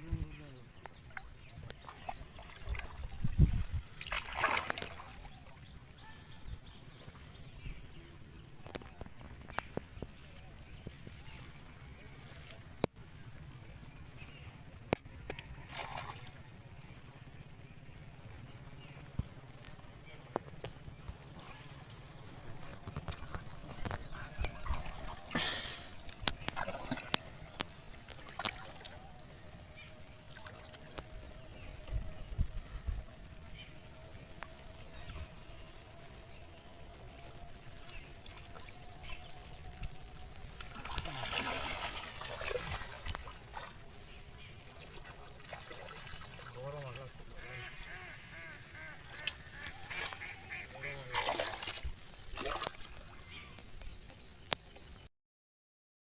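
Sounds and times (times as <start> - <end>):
splashing in shallow water: 0.8 - 7.4, 8.6 - 55.0.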